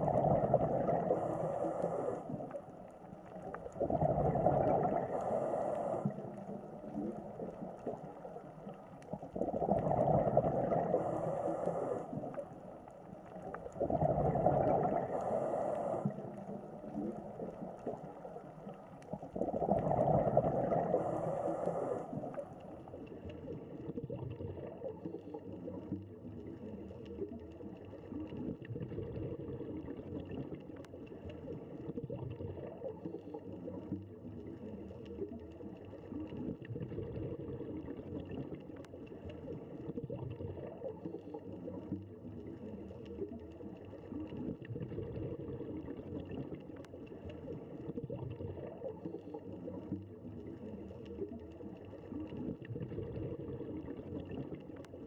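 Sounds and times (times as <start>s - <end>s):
underwater wash: 0.0s - 55.0s.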